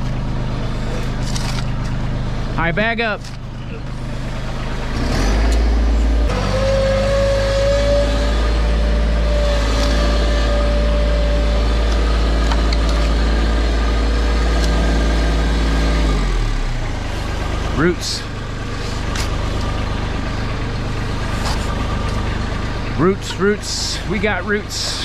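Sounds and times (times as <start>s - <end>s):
loader engine at high throttle: 0.0s - 25.0s
steady machine whine: 0.0s - 25.0s.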